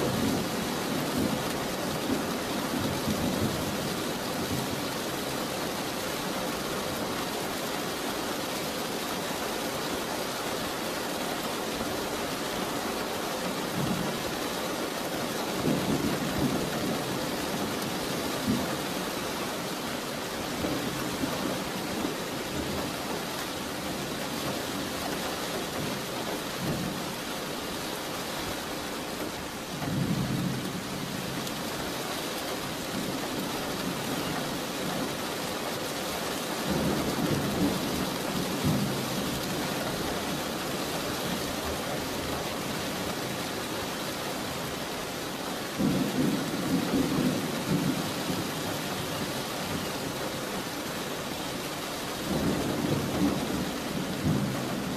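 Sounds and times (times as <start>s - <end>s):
rain hissing: 0.0s - 54.9s.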